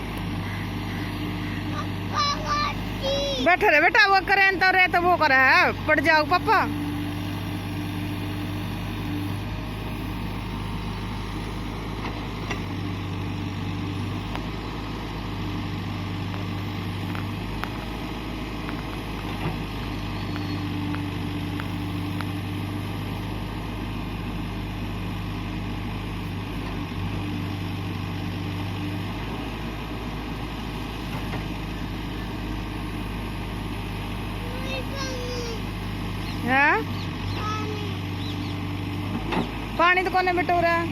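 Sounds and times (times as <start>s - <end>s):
machine engine humming: 0.0s - 40.9s.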